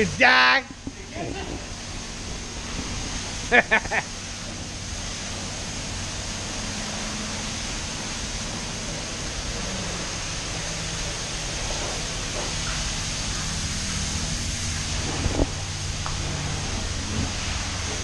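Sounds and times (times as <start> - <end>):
water spray hissing: 0.0 - 18.0.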